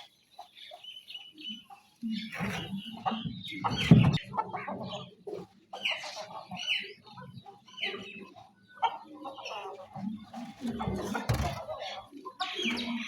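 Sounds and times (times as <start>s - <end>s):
chickens clucking: 0.0s - 13.0s
hens and chicks calling: 0.0s - 13.0s.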